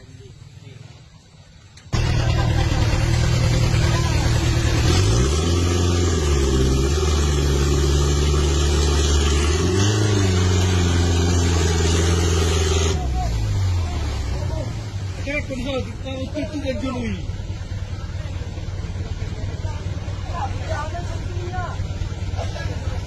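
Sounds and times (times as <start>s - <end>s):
truck engine running under load: 1.9s - 23.0s.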